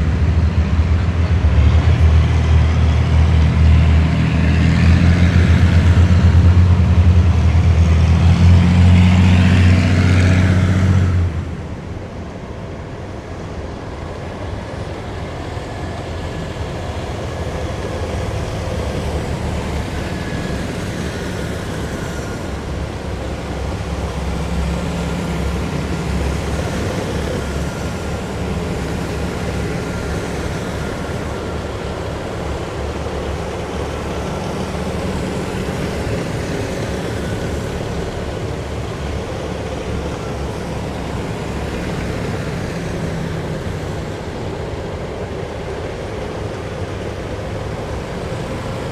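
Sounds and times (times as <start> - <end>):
heavy vehicles engine rumble: 0.0 - 48.9.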